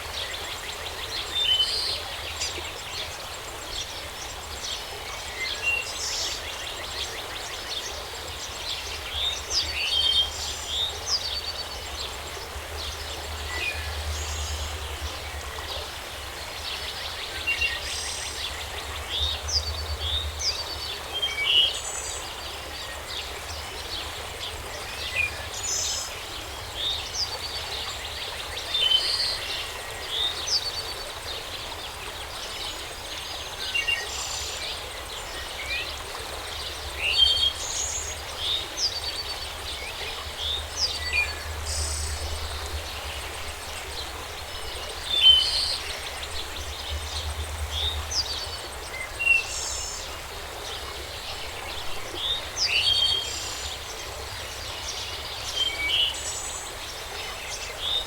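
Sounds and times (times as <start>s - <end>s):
outdoor background hiss: 0.0s - 58.0s
songbirds chirping: 0.0s - 58.0s.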